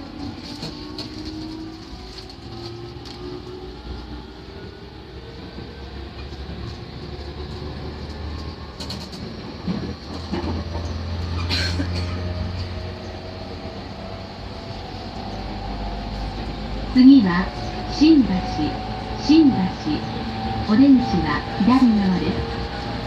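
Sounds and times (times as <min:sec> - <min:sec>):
train running heard from inside: 0:00.0 - 0:23.0.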